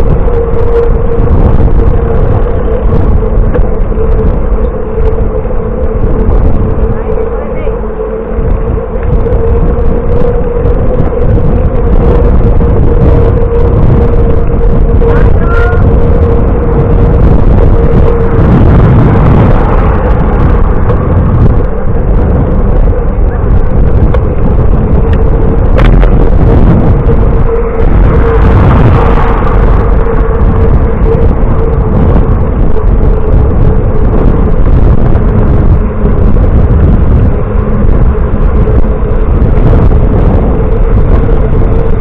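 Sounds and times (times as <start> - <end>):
road noise: 0.0 - 42.0
steady hum: 0.0 - 42.0
wind rumbling on microphone: 0.0 - 42.0.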